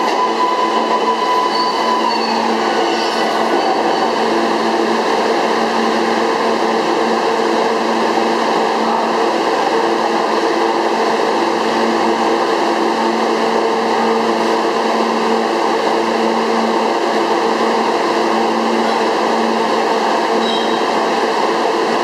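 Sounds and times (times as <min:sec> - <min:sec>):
subway train equipment humming: 0:00.0 - 0:22.0.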